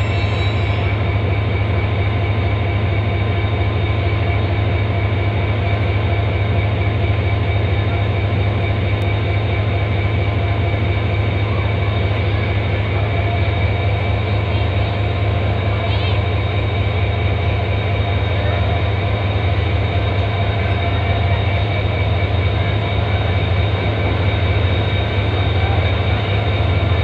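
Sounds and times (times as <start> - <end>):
train diesel engine humming: 0.0 - 27.0.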